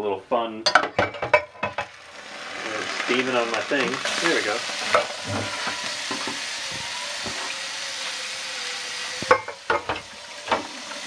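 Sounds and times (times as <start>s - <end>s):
water sizzling in hot pan: 1.3s - 11.0s.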